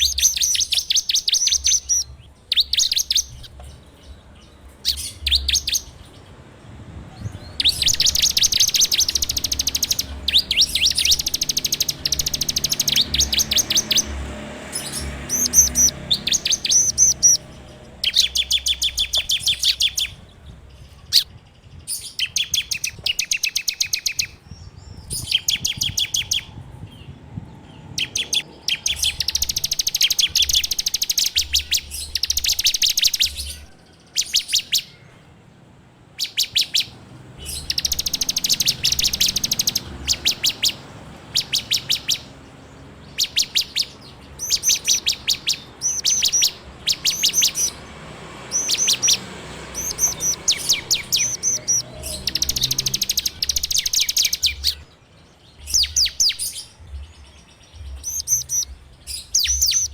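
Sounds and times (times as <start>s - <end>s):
bird singing rapid rattling trill: 0.0s - 35.1s, 36.0s - 59.9s.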